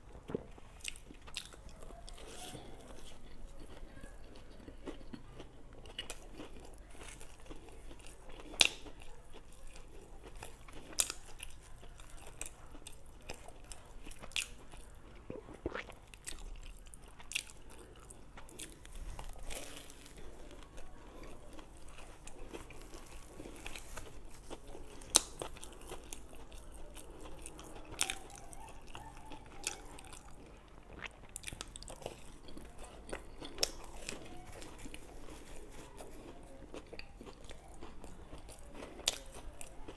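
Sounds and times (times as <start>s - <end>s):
chewing and biting: 0.0s - 39.9s.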